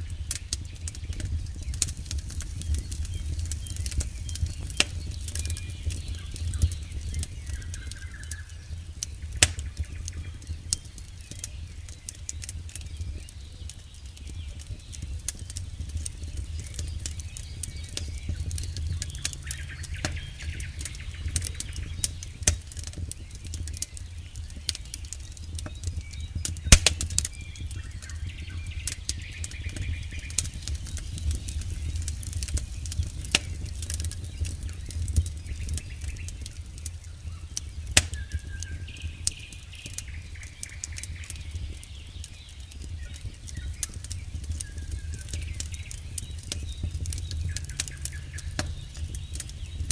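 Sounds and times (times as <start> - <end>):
campfire crackling and popping: 0.0 - 49.9
low rumble of flames: 0.0 - 49.9.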